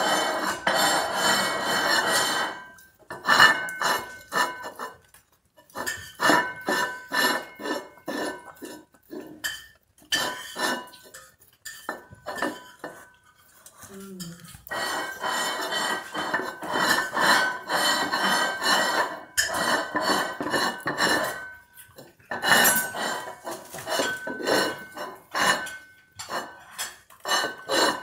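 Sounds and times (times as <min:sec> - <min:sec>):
plate scraping on tiles: 0:00.0 - 0:28.0.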